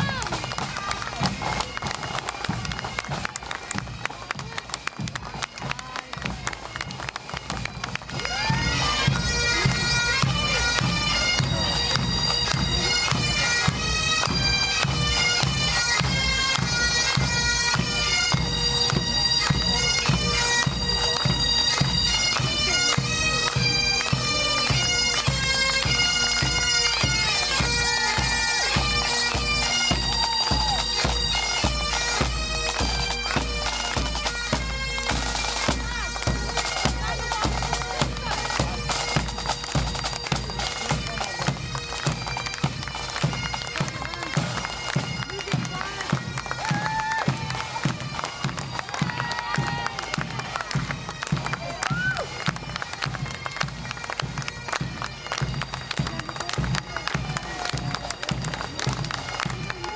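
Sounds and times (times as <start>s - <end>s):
bagpipes playing: 0.0s - 59.9s
drums beating time: 0.0s - 59.9s.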